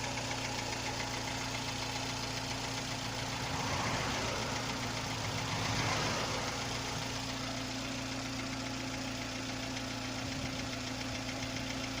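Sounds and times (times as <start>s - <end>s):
car engine idling with rattle: 0.0s - 12.0s.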